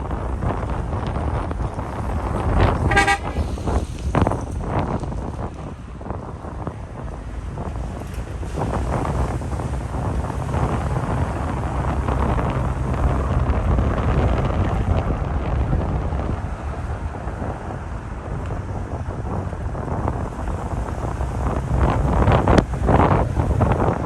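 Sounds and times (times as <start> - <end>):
vehicle rumble: 0.0 - 24.0
wind buffeting microphone: 0.0 - 24.0.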